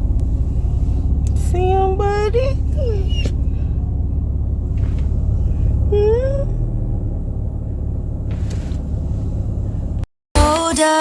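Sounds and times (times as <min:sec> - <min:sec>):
road rumble inside car: 0:00.0 - 0:10.1.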